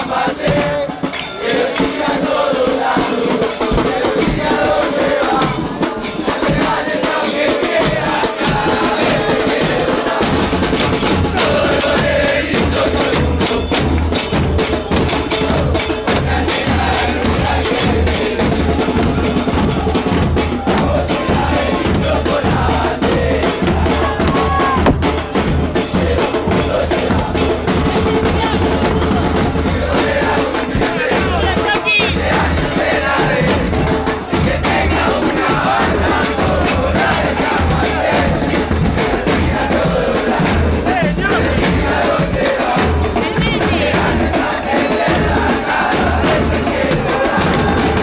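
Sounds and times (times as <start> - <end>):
crowd chanting: 0.0 - 48.0
sharp drum strikes: 0.0 - 48.0
deep bass drums pounding: 7.9 - 48.0.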